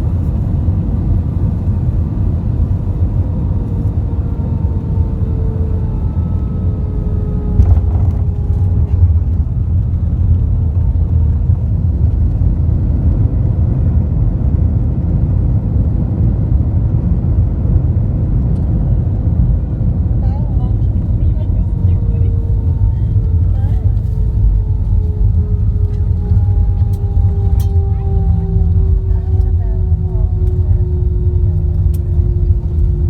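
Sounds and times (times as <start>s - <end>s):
aircraft cabin rumble: 0.0s - 33.0s.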